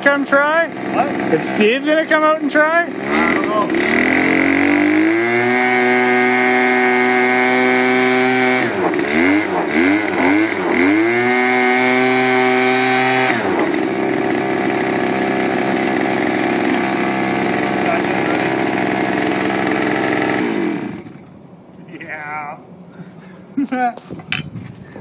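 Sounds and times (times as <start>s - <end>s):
small two-stroke engine revving: 0.0s - 21.4s.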